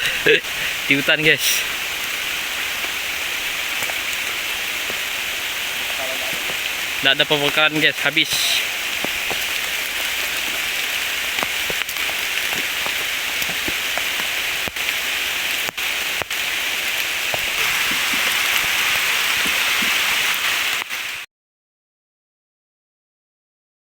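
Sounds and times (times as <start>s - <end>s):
water drips and ticks: 0.0s - 21.1s
heavy rain falling: 0.0s - 21.3s.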